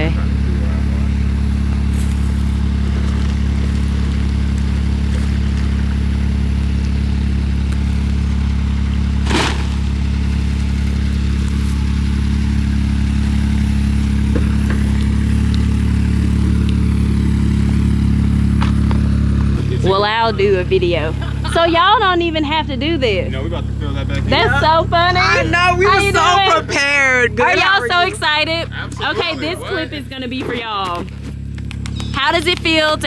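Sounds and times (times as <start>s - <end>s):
vehicle engine under load: 0.0s - 33.0s.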